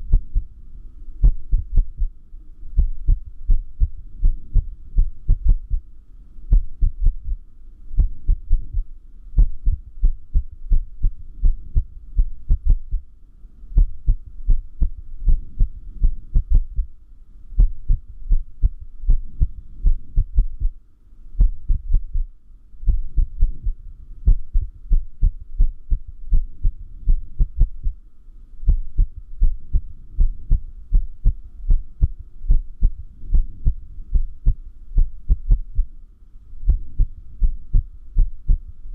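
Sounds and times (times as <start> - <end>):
irregular heartbeat thumps: 0.0 - 0.5, 1.2 - 2.2, 2.8 - 5.9, 6.5 - 7.4, 8.0 - 13.1, 13.8 - 16.9, 17.6 - 20.8, 21.4 - 22.3, 22.9 - 28.0, 28.7 - 35.9, 36.6 - 38.8.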